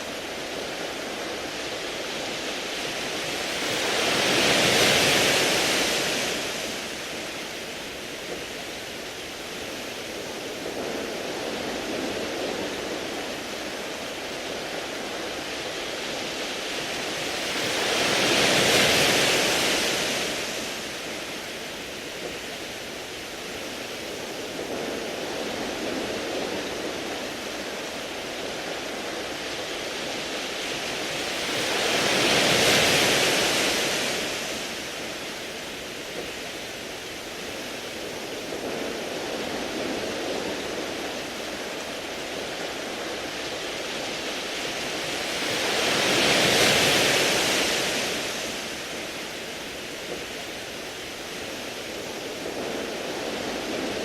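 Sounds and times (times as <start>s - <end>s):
waves washing onto pebbles: 0.0s - 54.0s.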